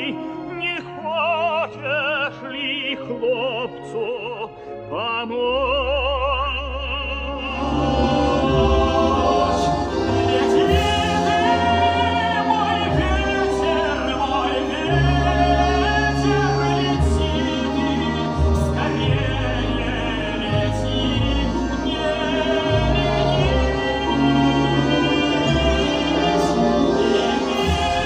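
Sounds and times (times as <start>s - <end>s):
operatic singing with vibrato: 0.0s - 28.0s
orchestral accompaniment: 0.0s - 28.0s.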